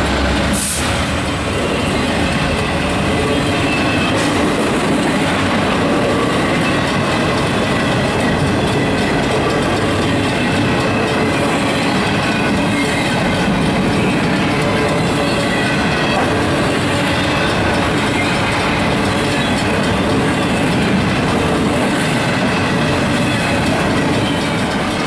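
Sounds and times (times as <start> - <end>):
steel wheels clattering on rails: 0.0 - 25.0.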